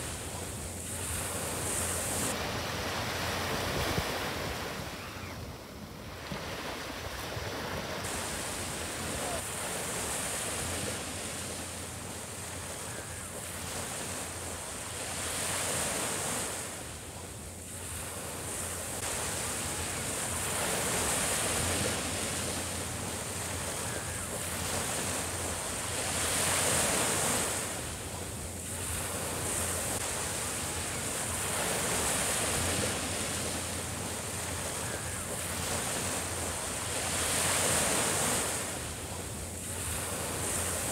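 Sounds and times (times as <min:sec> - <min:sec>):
small waves breaking on sand: 0:00.0 - 0:40.9.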